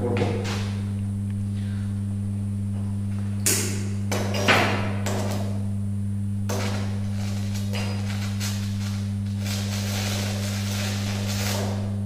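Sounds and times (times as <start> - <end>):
welding machine electrical hum: 0.0 - 12.0.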